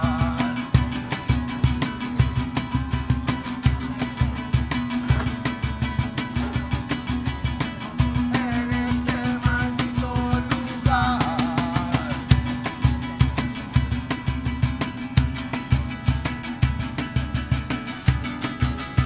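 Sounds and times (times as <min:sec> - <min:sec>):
acoustic guitar strummed fast: 0:00.0 - 0:19.0
low cajon beats: 0:00.0 - 0:19.0.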